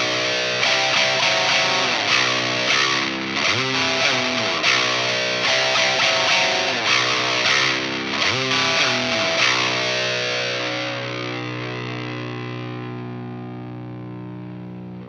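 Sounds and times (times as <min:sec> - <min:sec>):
electric guitar playing chords: 0:00.0 - 0:15.0.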